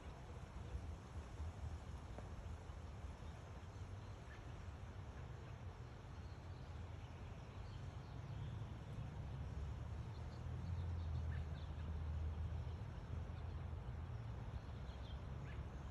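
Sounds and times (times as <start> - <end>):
soft hiss: 0.0 - 15.9.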